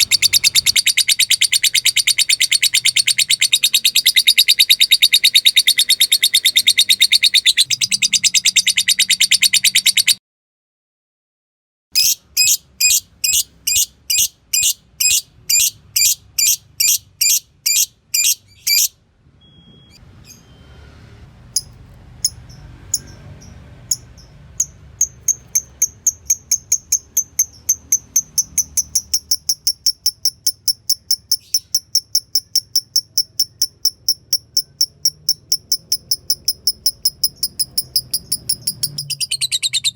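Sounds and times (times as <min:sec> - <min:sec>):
fast high ticking bird calls: 0:00.0 - 0:10.2, 0:12.0 - 0:19.0, 0:21.6 - 0:39.9
lovebird chattering trill: 0:00.0 - 0:10.2, 0:12.0 - 0:18.9, 0:21.6 - 0:39.9
sharp repeated bird chirps: 0:00.0 - 0:10.2, 0:11.9 - 0:19.0, 0:21.6 - 0:39.9.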